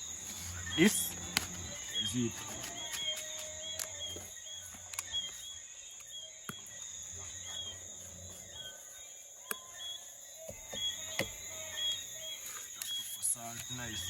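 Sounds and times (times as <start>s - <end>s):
insect drone: 0.0s - 14.0s.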